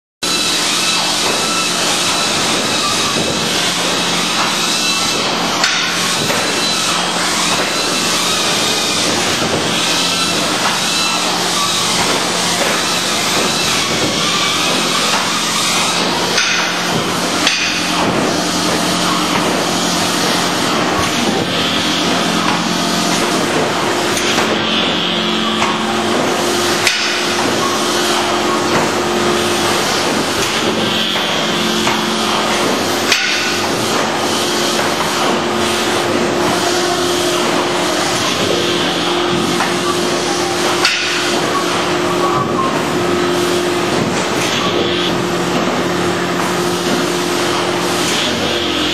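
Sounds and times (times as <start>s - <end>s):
packing machine running: 0.2s - 48.9s
sharp machine knocks: 0.9s - 40.0s, 40.6s - 41.6s.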